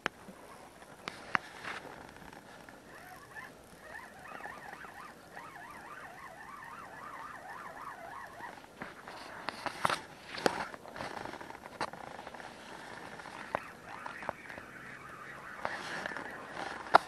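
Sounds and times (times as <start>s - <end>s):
fishing reel gears whirring: 2.0s - 17.0s.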